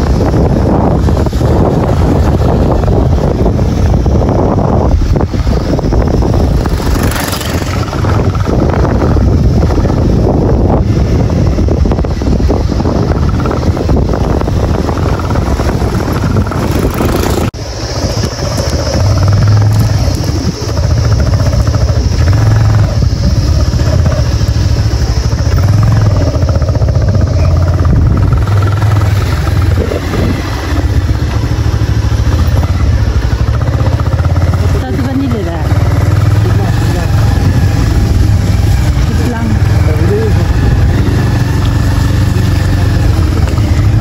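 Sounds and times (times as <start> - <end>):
motorcycle engine droning: 0.0 - 44.0
road and wind noise: 0.0 - 44.0.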